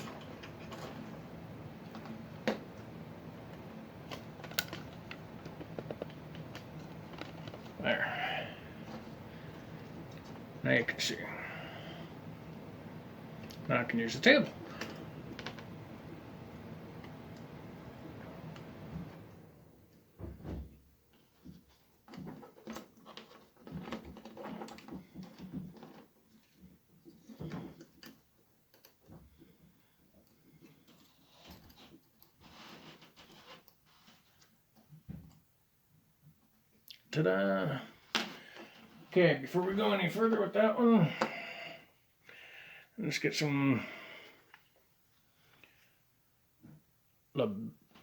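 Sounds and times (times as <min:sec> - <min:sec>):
low room hum: 0:00.0 - 0:48.0.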